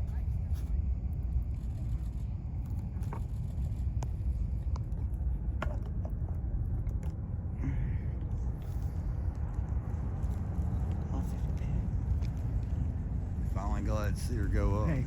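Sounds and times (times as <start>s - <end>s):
distant rocket engine rumble: 0.0s - 15.0s.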